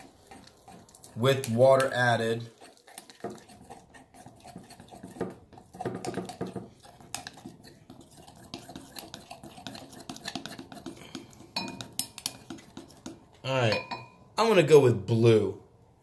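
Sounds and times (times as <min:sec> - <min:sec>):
utensil stirring thick mixture: 0:00.0 - 0:13.6
utensil scraping bowl: 0:00.0 - 0:14.1.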